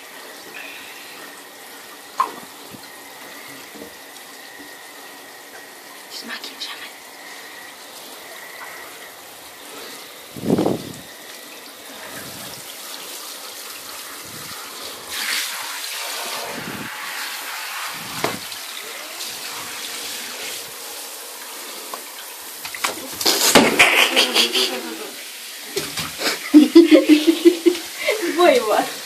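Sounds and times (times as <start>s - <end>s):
shower spray splashing: 0.0s - 29.0s.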